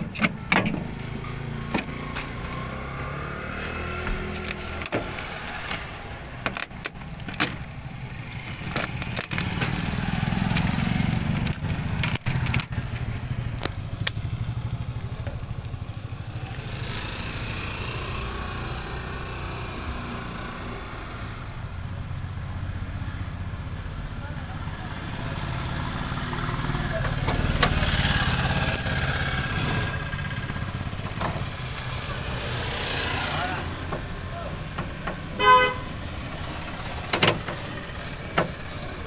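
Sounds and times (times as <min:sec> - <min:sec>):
engine running: 0:00.0 - 0:21.6, 0:25.0 - 0:39.0.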